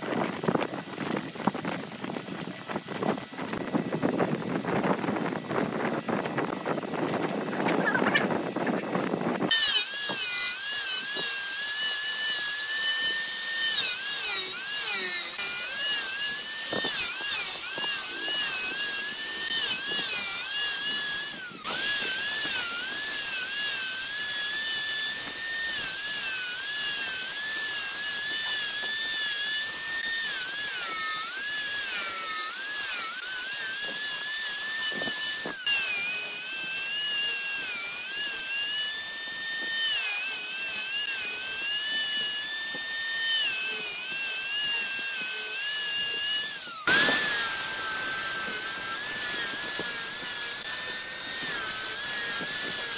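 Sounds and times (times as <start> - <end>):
angle grinder on wood: 0.0 - 52.9.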